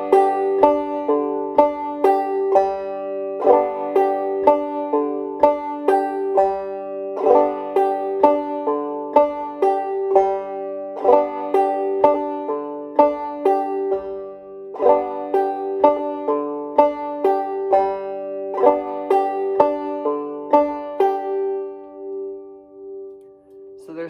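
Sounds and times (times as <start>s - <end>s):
banjo plucked melody: 0.0s - 24.0s.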